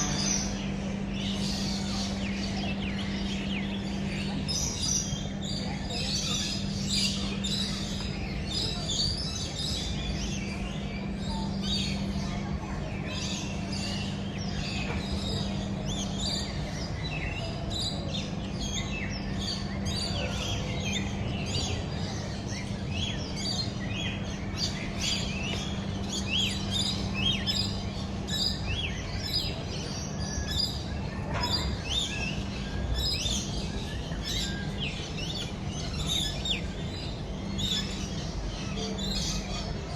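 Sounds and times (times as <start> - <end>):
low hum and rumble: 0.0 - 39.9
many birds chirping: 0.0 - 39.9.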